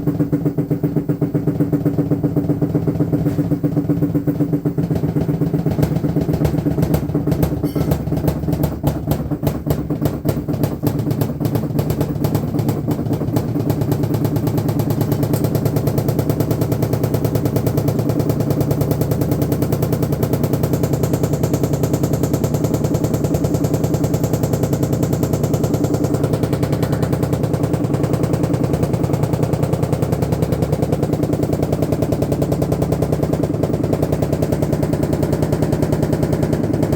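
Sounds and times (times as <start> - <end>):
washing machine knocking rattle: 0.0 - 36.9.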